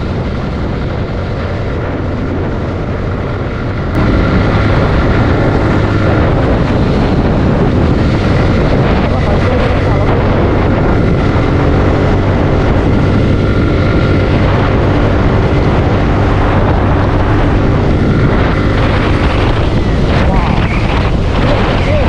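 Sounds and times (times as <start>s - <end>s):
motorcycle engine cruising: 0.0s - 22.0s
wind on microphone: 0.0s - 22.0s.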